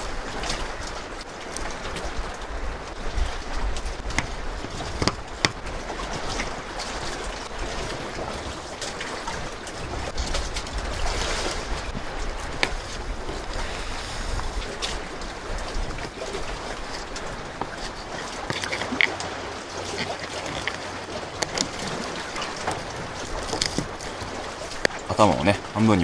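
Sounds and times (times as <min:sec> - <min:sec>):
sea surf: 0:00.0 - 0:26.0.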